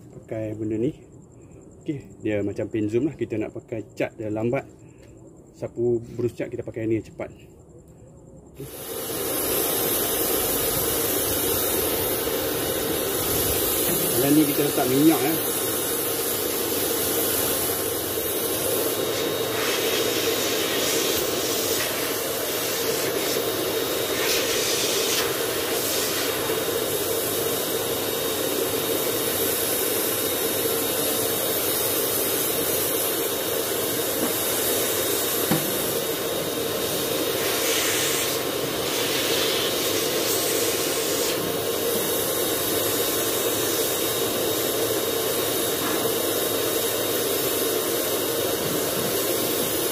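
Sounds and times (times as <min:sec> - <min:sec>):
electric spray gun hissing: 0:08.6 - 0:49.9.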